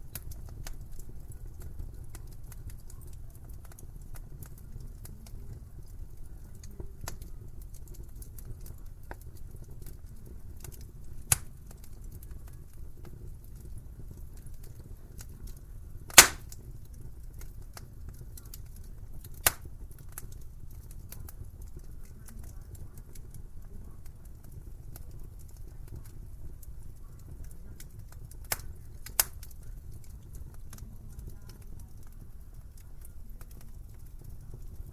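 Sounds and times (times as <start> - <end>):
sharp pops of fire: 0.0 - 23.4, 24.0 - 34.9
wood fire crackling: 0.0 - 34.9.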